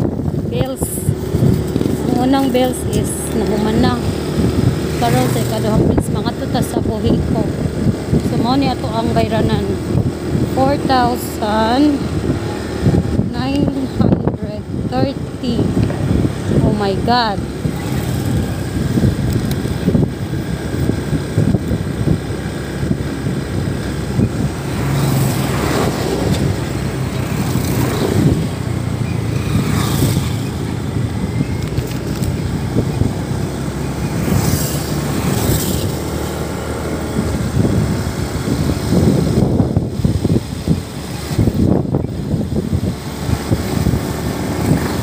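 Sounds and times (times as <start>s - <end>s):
motorcycle engine hum: 0.0s - 45.0s
wind noise on microphone: 0.0s - 45.0s.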